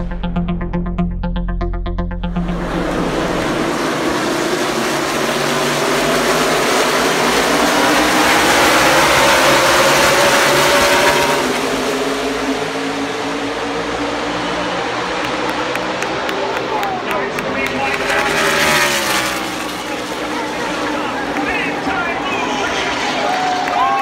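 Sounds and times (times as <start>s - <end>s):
race car engines droning: 2.3s - 24.0s.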